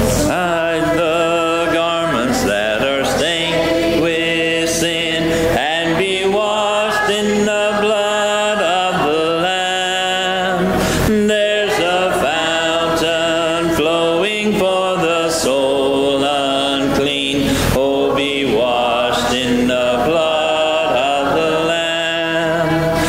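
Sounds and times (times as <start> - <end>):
congregation singing a hymn: 0.0 - 23.0.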